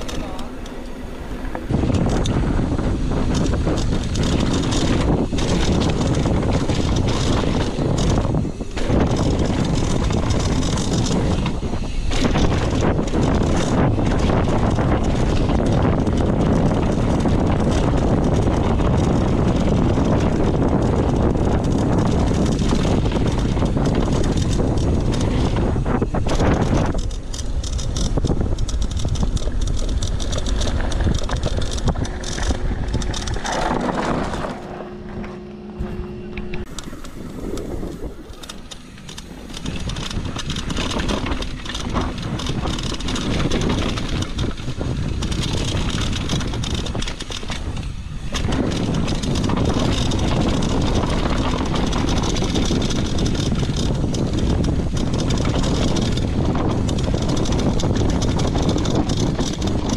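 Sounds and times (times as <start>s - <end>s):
bike rattling over dirt: 0.0s - 59.9s
wind rushing over microphone: 0.0s - 59.9s.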